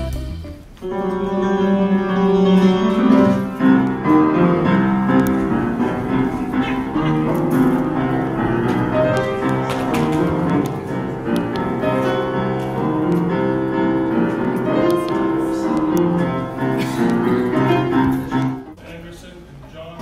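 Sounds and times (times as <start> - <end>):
piano music with held chords: 0.0 - 18.8.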